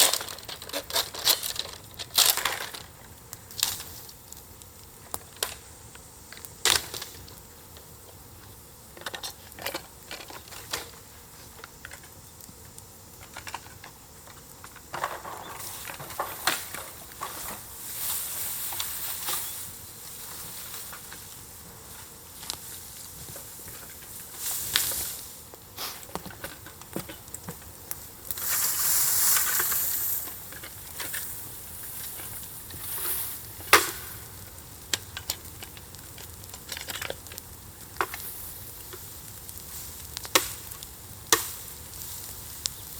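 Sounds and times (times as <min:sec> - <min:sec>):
campfire crackling and popping: 0:00.0 - 0:42.9
campfire hissing: 0:00.0 - 0:42.9.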